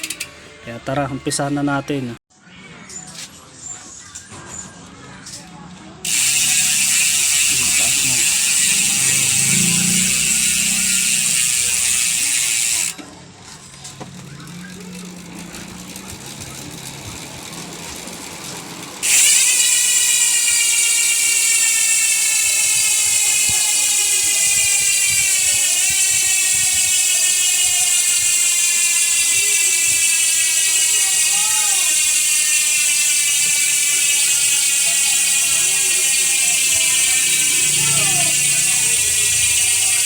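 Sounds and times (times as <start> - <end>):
bicycle freehub buzzing: 0.0 - 0.3, 6.0 - 40.0.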